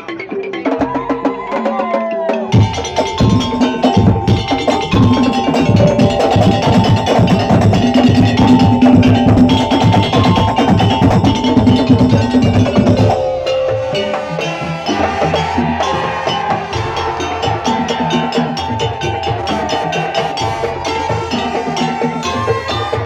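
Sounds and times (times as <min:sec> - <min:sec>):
percussion ensemble playing: 0:00.0 - 0:23.0.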